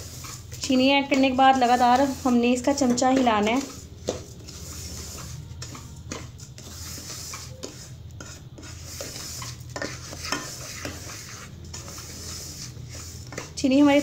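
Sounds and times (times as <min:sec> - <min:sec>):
spatula scraping metal pot: 0:00.0 - 0:14.0.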